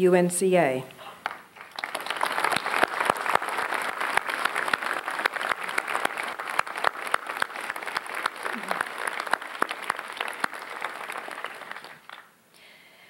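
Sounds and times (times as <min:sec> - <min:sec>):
audience applauding: 0:01.2 - 0:12.4.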